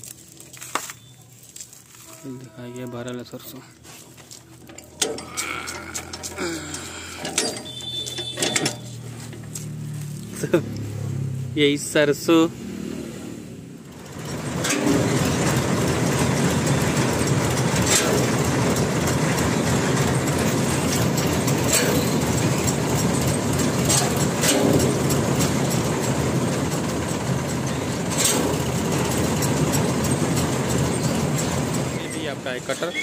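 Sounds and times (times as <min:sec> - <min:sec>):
tractor engine running: 0:00.0 - 0:11.7, 0:13.8 - 0:33.0.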